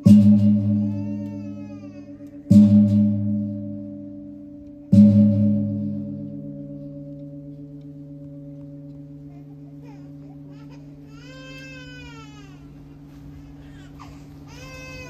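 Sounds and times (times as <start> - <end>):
large gong ringing: 0.0 - 13.0.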